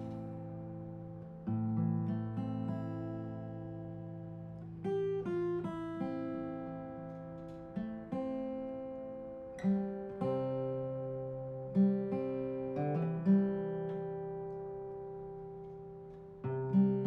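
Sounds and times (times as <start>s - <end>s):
acoustic guitar picked chords: 0.0s - 17.0s.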